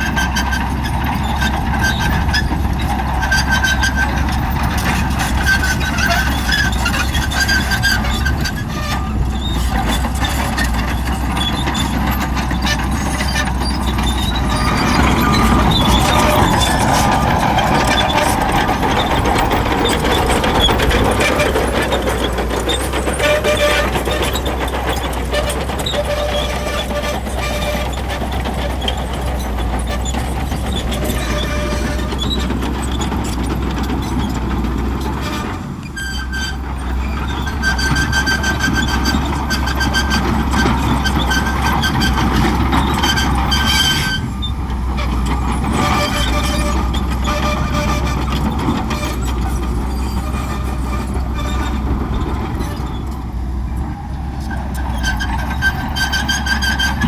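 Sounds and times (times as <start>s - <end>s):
bulldozer diesel engine drone: 0.0s - 57.0s
squeals and clatter of tracks: 0.0s - 57.0s.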